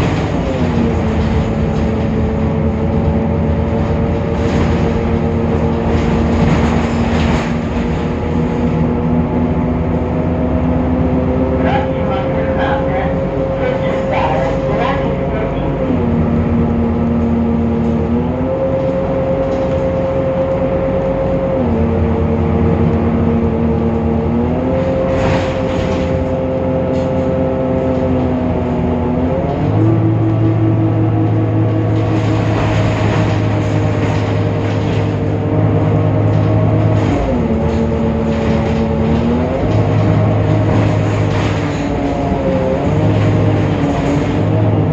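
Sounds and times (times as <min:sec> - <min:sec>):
bus drivetrain whine: 0:00.0 - 0:44.9
bus engine rumble: 0:00.0 - 0:44.9.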